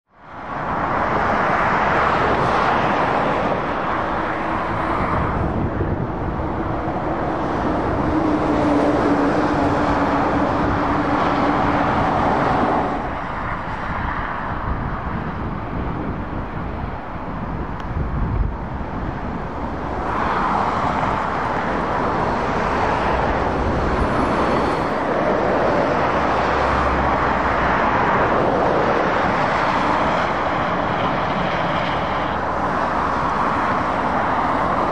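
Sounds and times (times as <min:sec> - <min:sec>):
motorway traffic passing: 0:00.1 - 0:34.9.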